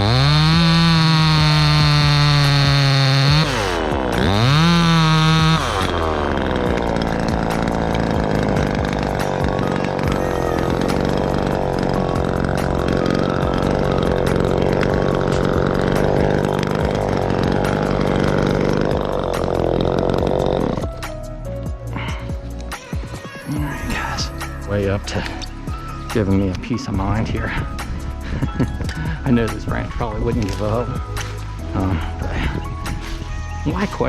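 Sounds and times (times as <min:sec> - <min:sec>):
chainsaw running: 0:00.0 - 0:34.0.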